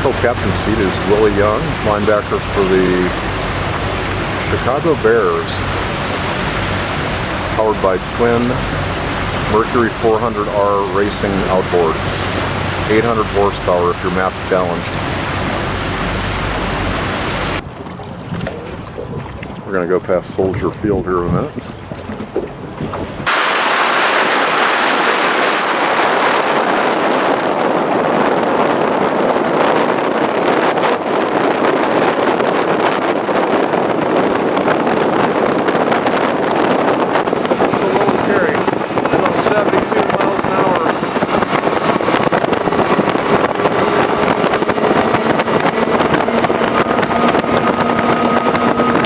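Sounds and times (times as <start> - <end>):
outboard engine whine: 0.0 - 49.0
wind rushing over microphone: 0.0 - 49.0.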